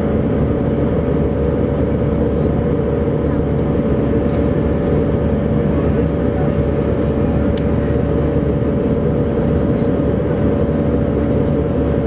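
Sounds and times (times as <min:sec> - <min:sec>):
constant hum tone: 0:00.0 - 0:12.0
jet engine and airflow noise: 0:00.0 - 0:12.0.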